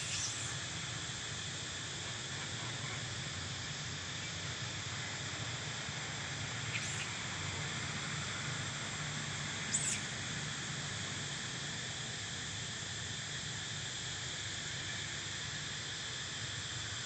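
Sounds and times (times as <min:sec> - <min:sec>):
insects droning in trees: 0:00.0 - 0:17.0.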